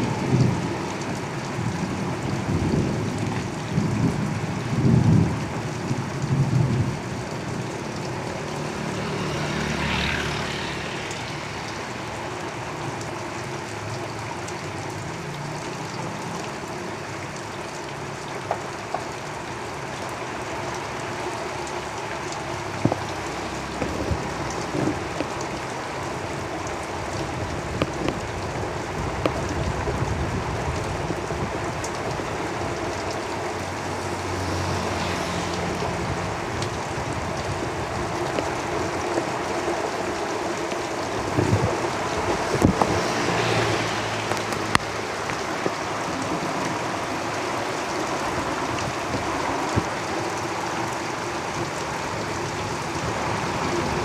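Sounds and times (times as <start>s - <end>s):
heavy rain on a tin roof: 0.0s - 54.0s
vehicle swishing past on wet road: 0.0s - 54.0s.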